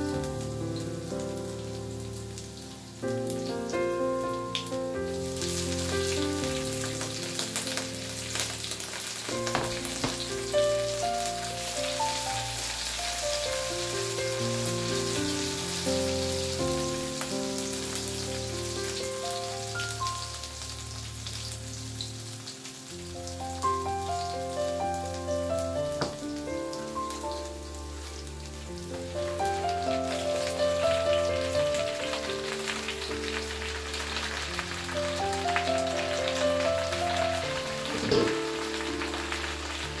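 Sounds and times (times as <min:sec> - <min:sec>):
background music: 0:00.0 - 0:40.0
garlic sizzling in hot oil: 0:00.0 - 0:40.0.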